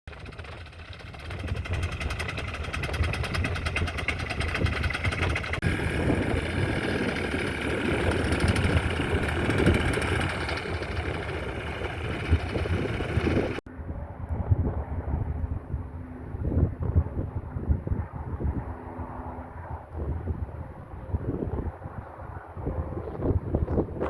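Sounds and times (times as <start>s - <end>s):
light aircraft piston engine: 0.1s - 24.0s
wind noise on microphone: 0.1s - 24.0s.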